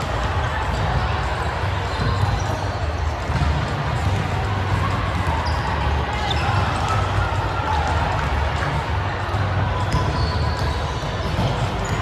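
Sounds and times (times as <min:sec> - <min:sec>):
faint voices: 0:00.0 - 0:12.0
volleyball hits and thuds: 0:01.9 - 0:12.0.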